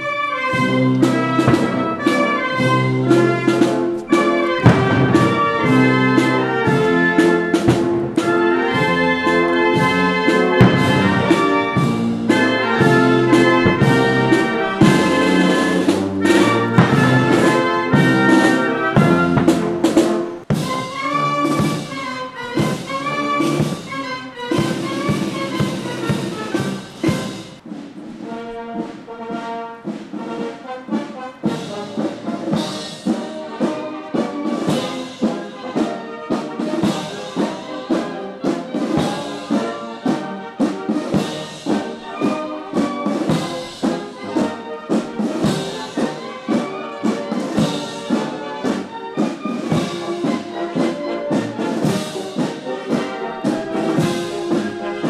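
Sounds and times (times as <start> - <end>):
drum strokes keeping time: 0.0 - 55.0
military brass band playing: 0.0 - 55.0.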